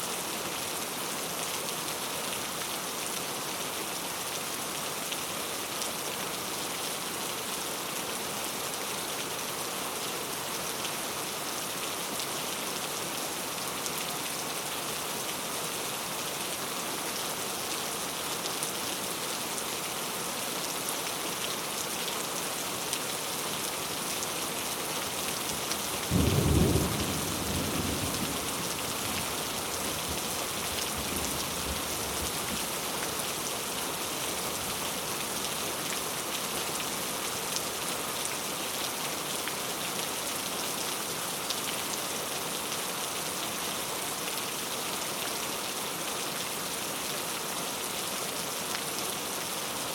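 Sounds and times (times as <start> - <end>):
heavy rain falling: 0.1 - 49.9.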